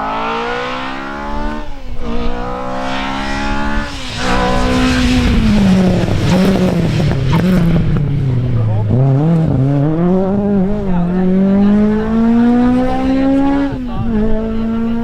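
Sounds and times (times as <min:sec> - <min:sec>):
rally car engine accelerating: 0:00.0 - 0:15.0.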